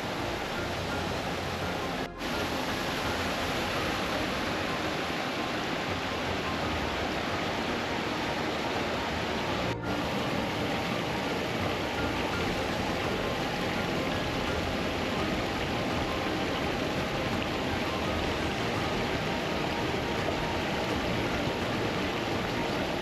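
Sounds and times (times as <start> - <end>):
stream and waterfall rushing: 0.0 - 23.0.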